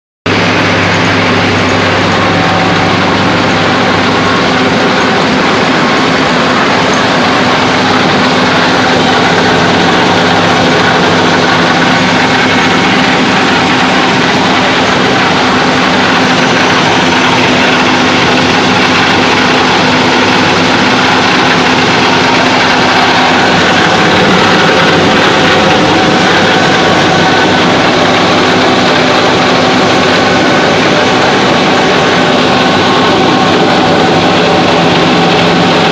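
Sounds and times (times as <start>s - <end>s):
milling machines running: 0.3s - 35.9s.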